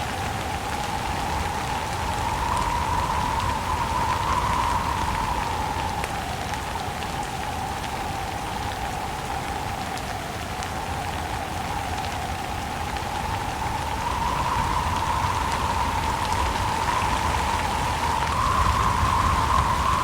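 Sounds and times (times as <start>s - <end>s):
rain hissing: 0.0s - 20.0s
wind: 0.0s - 20.0s.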